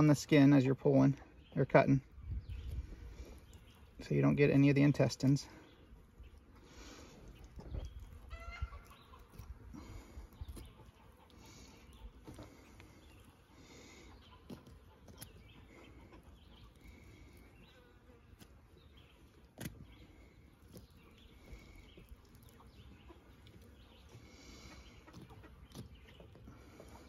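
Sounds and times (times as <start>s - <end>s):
faint outdoor ambience: 0.0s - 27.0s.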